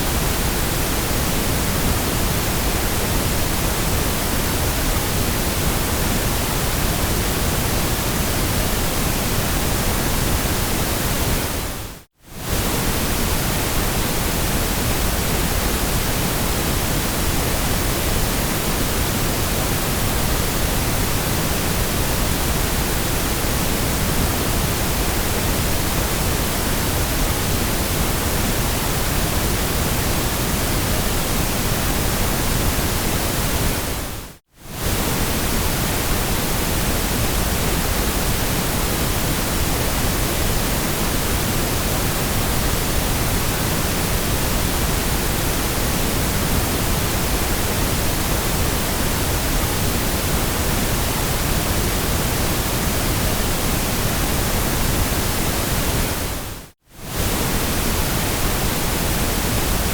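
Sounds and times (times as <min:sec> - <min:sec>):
synthetic white noise hiss: 0:00.0 - 0:59.9.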